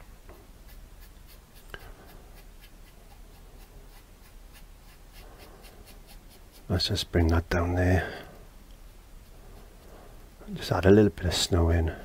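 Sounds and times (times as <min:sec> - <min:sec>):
paintbrush scratching on surface: 0:00.3 - 0:07.8, 0:08.7 - 0:11.0.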